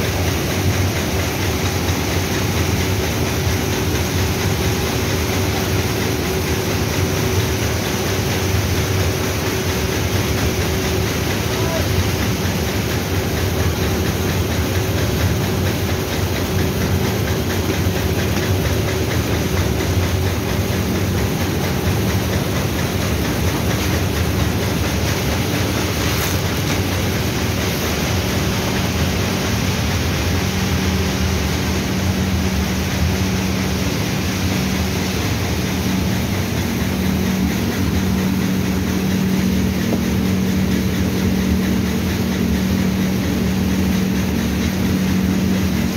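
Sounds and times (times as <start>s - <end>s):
machinery humming: 0.0s - 45.9s.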